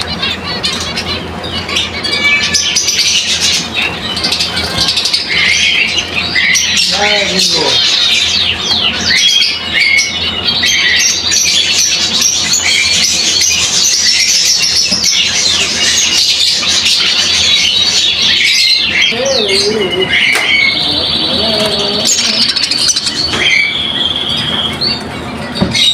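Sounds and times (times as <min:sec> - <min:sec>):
birds chirping and squawking: 0:00.0 - 0:25.9.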